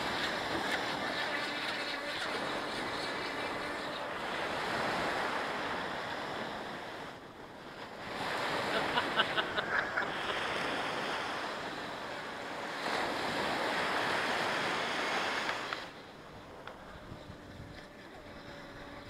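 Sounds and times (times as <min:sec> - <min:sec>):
waves washing up beach: 0:00.0 - 0:19.0
wind on microphone: 0:00.0 - 0:19.0.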